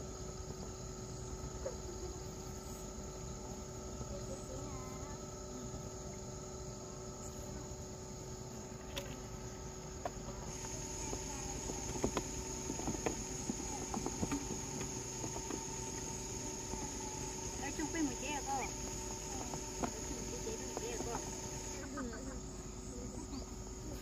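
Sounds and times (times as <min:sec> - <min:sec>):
high continuous tone: 0:00.0 - 0:24.0
insects chirring: 0:00.0 - 0:24.0.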